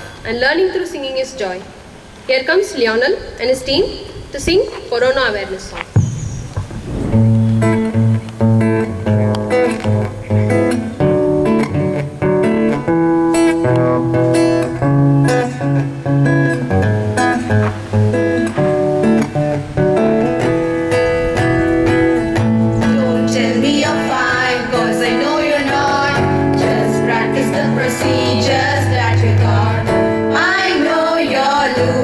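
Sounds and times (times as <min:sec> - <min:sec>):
acoustic guitar strumming: 0:06.0 - 0:32.0.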